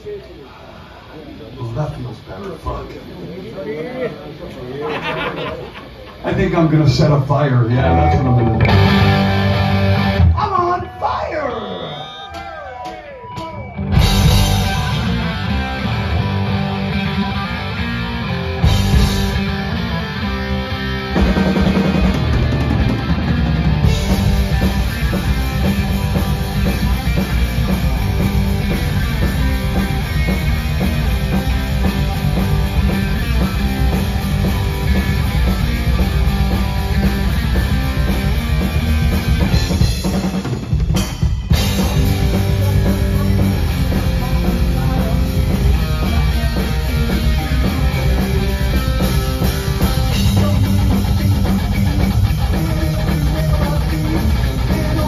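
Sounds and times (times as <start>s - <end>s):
distorted electric guitar: 4.8s - 55.0s
bass guitar: 6.1s - 10.5s, 13.4s - 55.0s
pounding drum kit: 7.8s - 11.2s, 12.0s - 55.0s.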